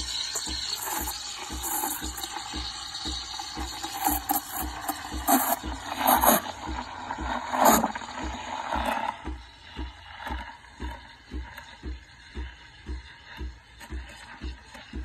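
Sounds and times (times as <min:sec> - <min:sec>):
steam wand frothing milk: 0:00.0 - 0:15.0.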